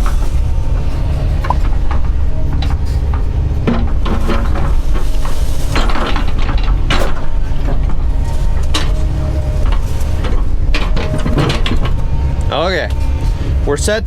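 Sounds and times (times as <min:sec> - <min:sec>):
excavator diesel engine running: 0:00.0 - 0:14.0
metallic clanks and rattles: 0:00.0 - 0:14.0.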